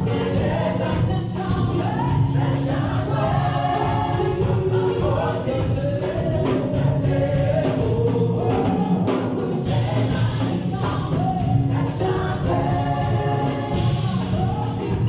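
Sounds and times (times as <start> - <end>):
band playing steady beat: 0.0 - 15.0
choir singing gospel song: 0.0 - 15.0.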